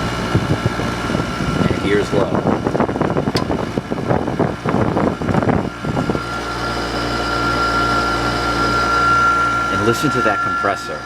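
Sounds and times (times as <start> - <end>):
air conditioner humming with whine: 0.0 - 11.0.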